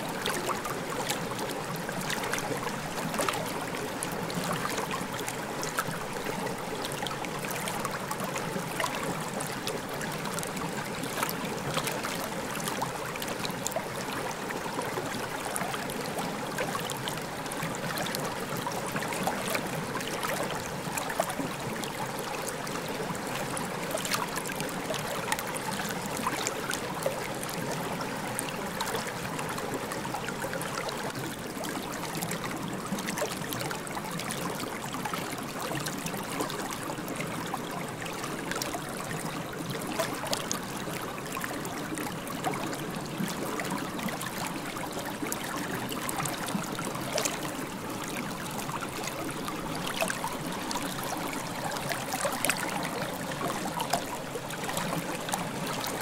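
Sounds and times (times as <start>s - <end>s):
muffled underwater water noise: 0.0s - 56.0s.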